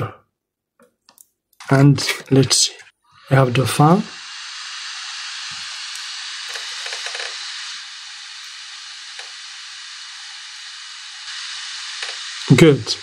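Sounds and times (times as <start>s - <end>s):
laptop fan airy hiss: 2.0s - 13.0s.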